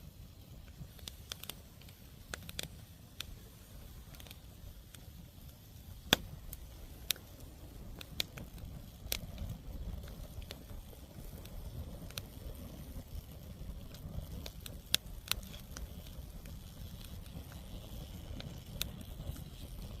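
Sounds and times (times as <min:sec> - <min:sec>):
low steady fire rumble: 0:00.0 - 0:20.0
wood fire crackling and popping: 0:00.0 - 0:20.0.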